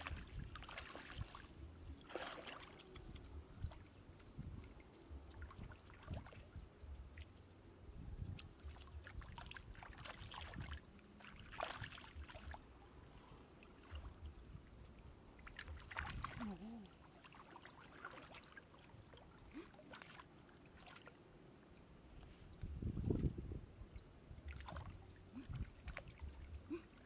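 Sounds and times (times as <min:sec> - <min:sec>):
splashing of shallow water: 0:00.0 - 0:07.5, 0:08.2 - 0:27.0.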